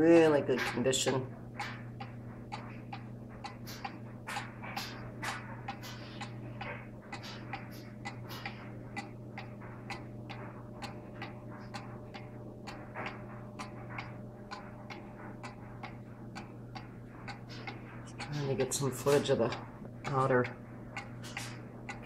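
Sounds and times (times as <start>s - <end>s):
clock ticking: 0.0s - 22.0s.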